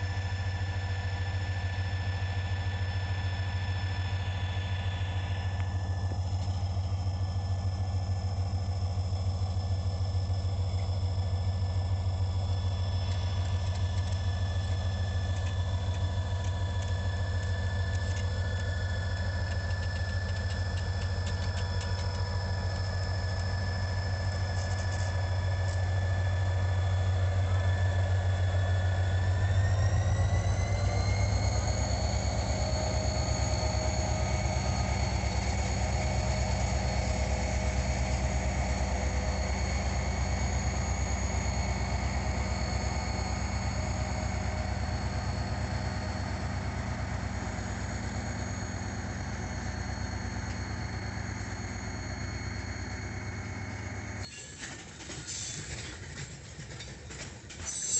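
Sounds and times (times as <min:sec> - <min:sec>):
diesel locomotive engine droning: 0:00.0 - 0:57.9.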